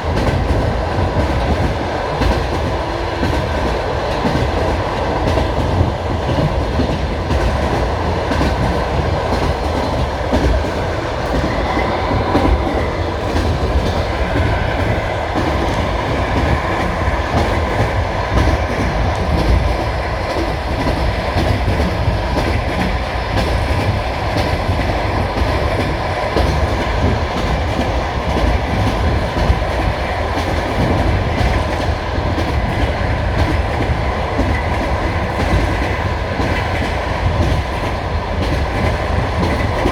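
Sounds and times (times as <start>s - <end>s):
train carriage rumbling: 0.0s - 39.9s.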